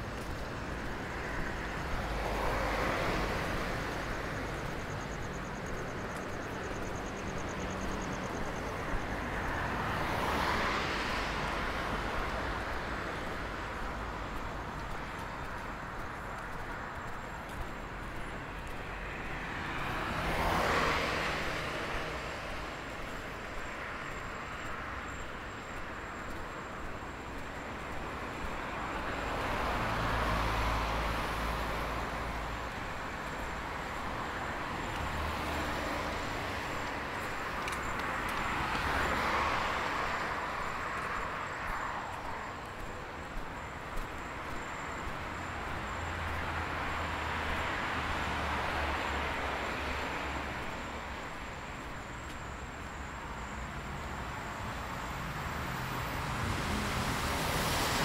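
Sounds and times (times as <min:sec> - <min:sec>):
cars passing: 0:00.0 - 0:58.0
steady traffic hum: 0:00.0 - 0:58.0.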